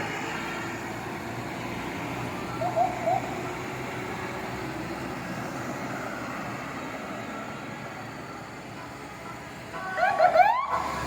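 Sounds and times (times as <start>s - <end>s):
passing traffic noise: 0.0s - 11.0s.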